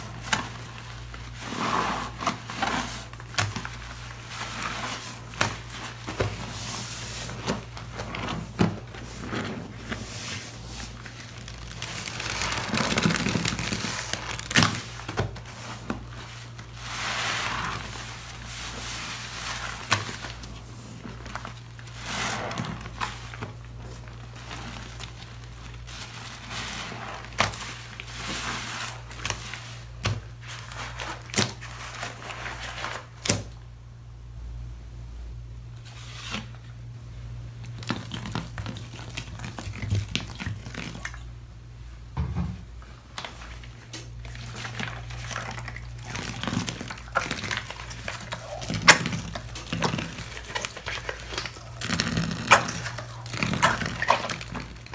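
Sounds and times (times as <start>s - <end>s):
sponges squelching in soapy lather: 0.0s - 33.2s, 37.6s - 41.4s, 43.1s - 54.9s.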